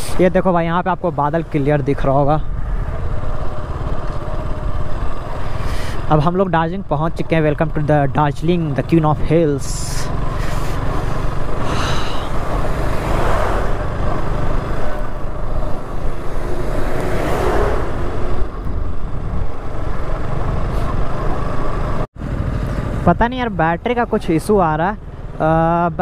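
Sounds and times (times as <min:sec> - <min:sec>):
wind and road noise: 0:00.0 - 0:26.0
motorcycle engine running: 0:01.8 - 0:06.8, 0:07.4 - 0:17.2, 0:17.8 - 0:26.0.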